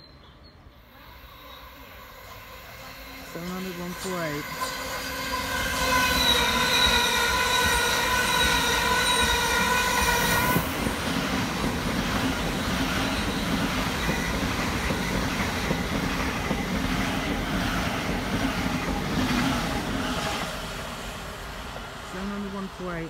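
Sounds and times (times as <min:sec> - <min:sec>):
train wheels rumbling on rails: 0:00.9 - 0:23.0.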